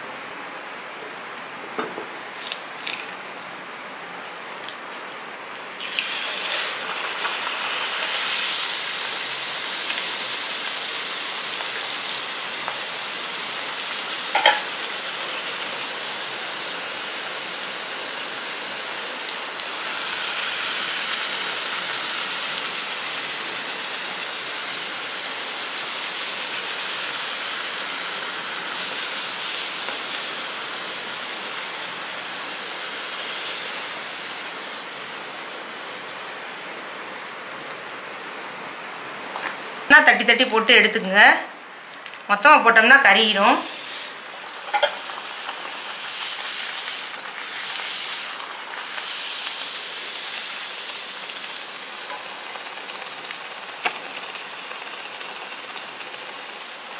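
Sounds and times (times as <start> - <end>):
food deep-frying in hot oil: 1.4 - 3.2, 5.8 - 38.5, 43.0 - 56.9.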